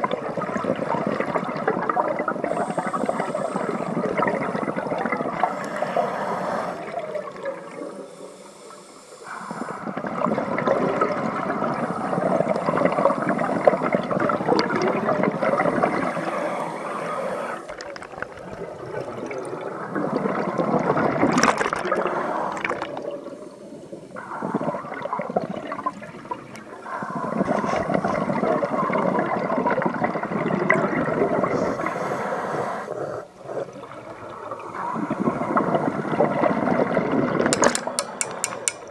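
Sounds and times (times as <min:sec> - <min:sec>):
underwater exhaled bubbles rushing: 0:00.0 - 0:08.4, 0:09.3 - 0:38.9.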